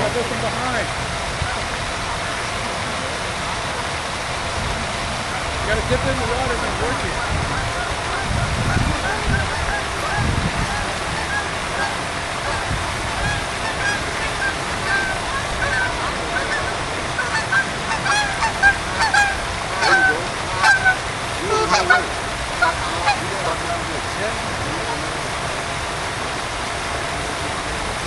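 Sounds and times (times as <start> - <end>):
geese honking: 0.0 - 27.9
background hiss: 0.0 - 28.0.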